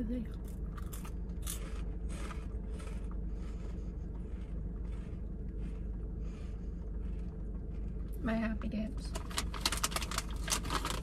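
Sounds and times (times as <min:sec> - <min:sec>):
low hum inside car: 0:00.0 - 0:11.0
person chewing crunchy crisps: 0:00.3 - 0:08.2, 0:09.1 - 0:11.0.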